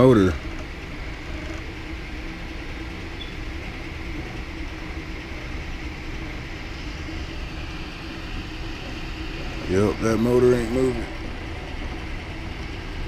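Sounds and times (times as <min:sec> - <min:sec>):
faint motor tone: 0:00.0 - 0:13.0
machine mechanical hum: 0:00.0 - 0:13.0.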